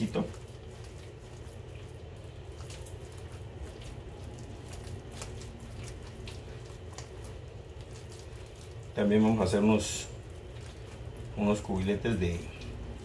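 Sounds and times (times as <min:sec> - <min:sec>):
hands kneading sticky dough: 0:00.0 - 0:13.0
low steady hum: 0:00.0 - 0:13.0.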